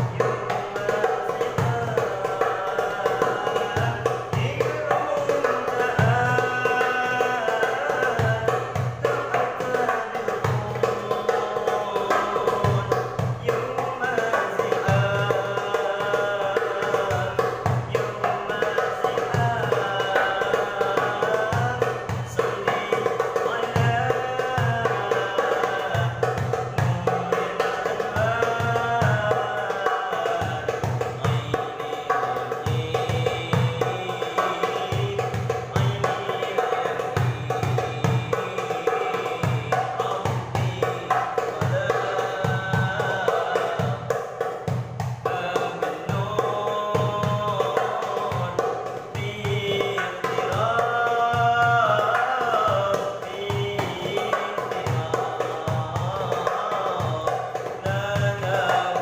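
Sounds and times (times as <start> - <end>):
darbuka beating quick rhythm: 0.0 - 59.0
person singing devotional song: 0.0 - 59.0.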